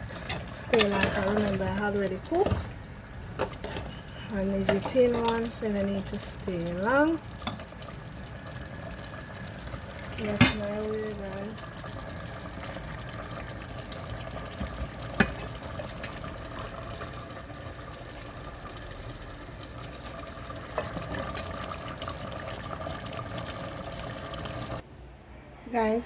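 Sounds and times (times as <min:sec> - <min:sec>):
stew simmering and bubbling: 0:00.0 - 0:24.8.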